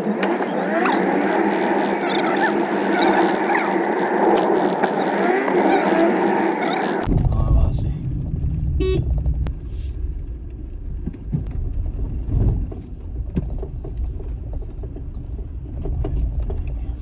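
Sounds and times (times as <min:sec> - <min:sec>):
car rumbling on stony track: 0:00.0 - 0:17.0.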